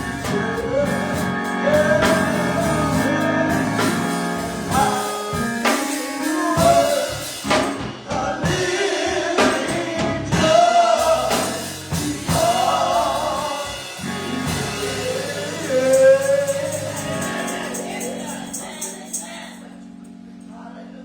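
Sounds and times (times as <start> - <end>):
band with drums: 0.0 - 19.6
voices singing gospel music: 0.0 - 21.0.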